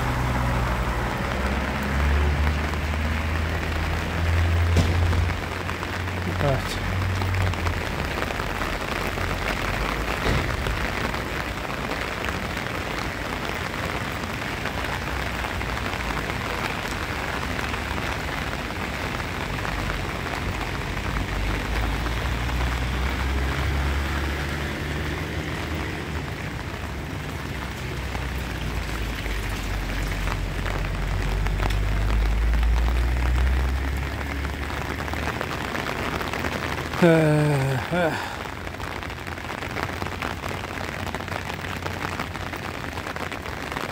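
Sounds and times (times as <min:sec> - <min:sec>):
rain on pavement: 0:00.0 - 0:43.9.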